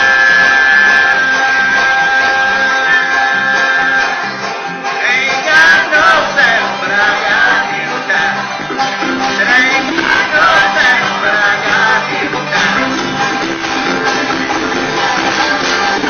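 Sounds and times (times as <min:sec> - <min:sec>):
bluegrass string band playing: 0:00.0 - 0:16.0
person singing: 0:00.0 - 0:16.0.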